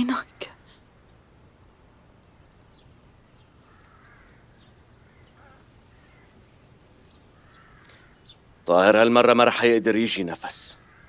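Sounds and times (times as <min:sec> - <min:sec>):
low steady hum: 0:00.0 - 0:09.9
faint crows cawing: 0:00.0 - 0:11.0.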